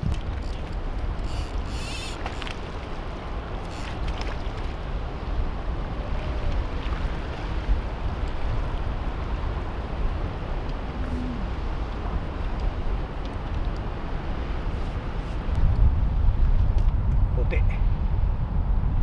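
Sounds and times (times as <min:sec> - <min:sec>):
open water wash: 0:00.0 - 0:18.9
wind buffeting microphone: 0:00.0 - 0:19.0.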